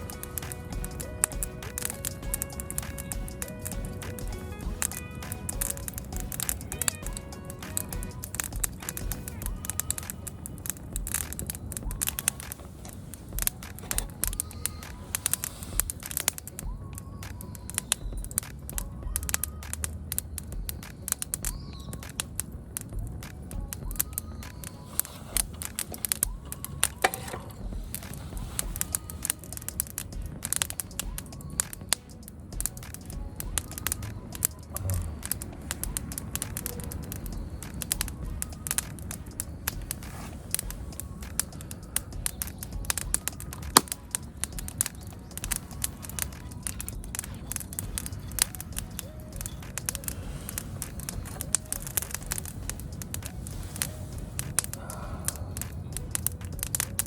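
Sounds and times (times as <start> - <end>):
small wood fire crackling: 0.0 - 57.0.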